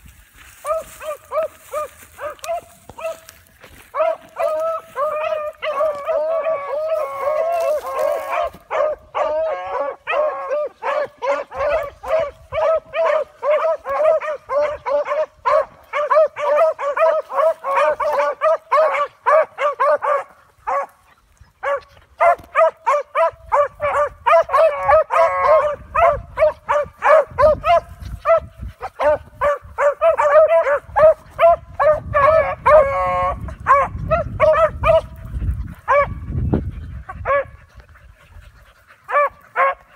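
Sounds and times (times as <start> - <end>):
dogs barking and bawling: 0.6 - 39.9.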